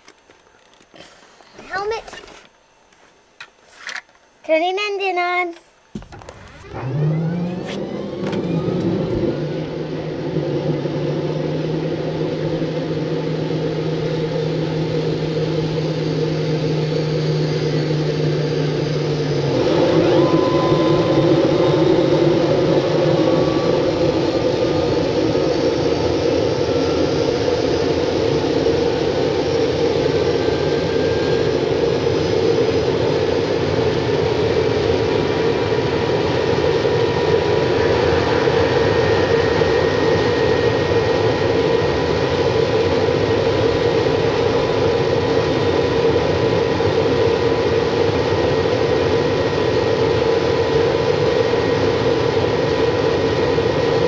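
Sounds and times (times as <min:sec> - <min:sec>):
faint steady whine: 0:00.0 - 0:54.0
engine running steadily: 0:05.2 - 0:54.0.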